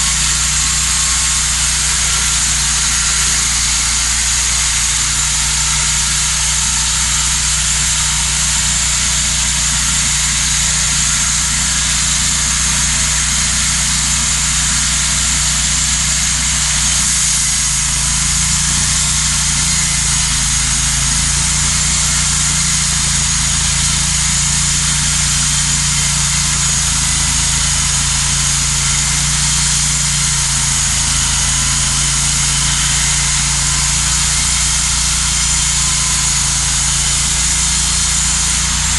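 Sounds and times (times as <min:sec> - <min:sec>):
band blade sawing log: 0:00.0 - 0:38.9
sawmill engine running: 0:00.0 - 0:38.9.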